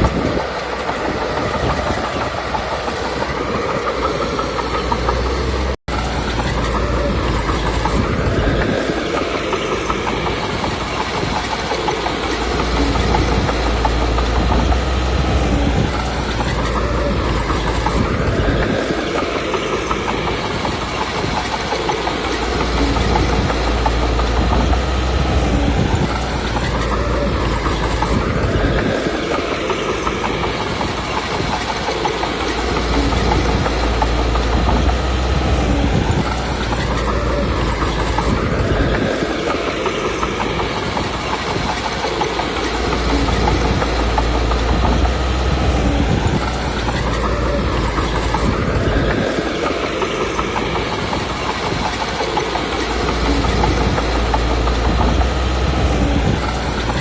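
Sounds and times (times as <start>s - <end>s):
bulldozer diesel engine: 0.0s - 57.0s
clanking steel tracks: 0.0s - 57.0s.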